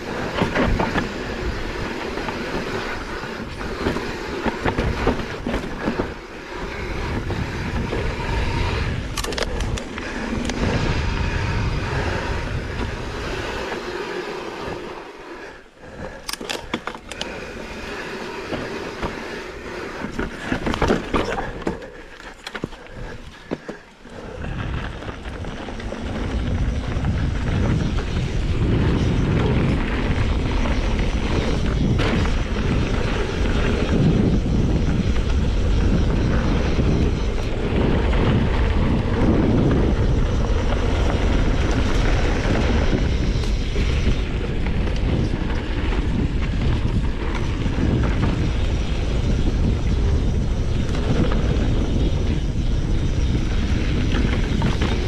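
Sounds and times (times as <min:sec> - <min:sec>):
bike rolling and rattling: 0:00.0 - 0:55.0.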